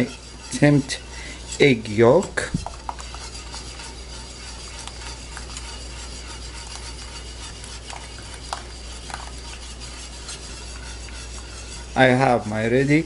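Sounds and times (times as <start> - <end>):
whisk swishing in milk: 0.0 - 13.0
whisk wires clinking on pot: 0.0 - 13.0.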